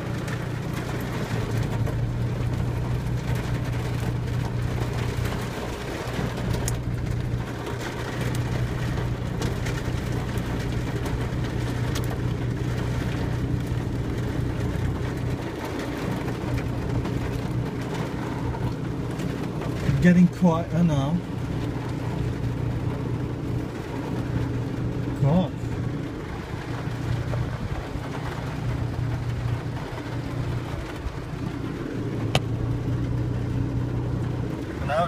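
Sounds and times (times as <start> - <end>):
hail and rain on car roof: 0.0 - 35.0
hailstones clicking: 0.0 - 35.0.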